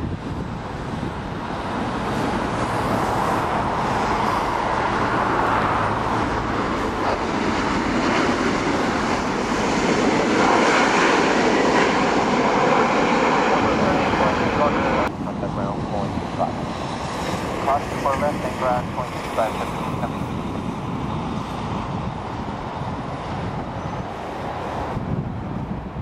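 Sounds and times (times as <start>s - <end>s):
jet airliner engines: 0.0s - 26.0s.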